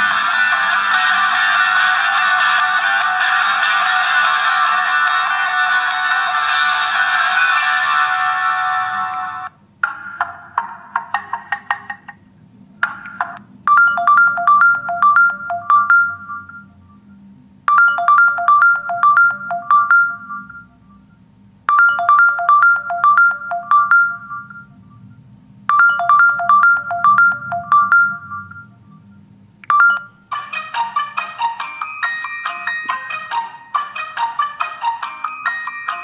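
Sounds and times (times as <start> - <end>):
phone ringtone melody: 0.0 - 12.0, 12.9 - 21.1, 21.7 - 36.0.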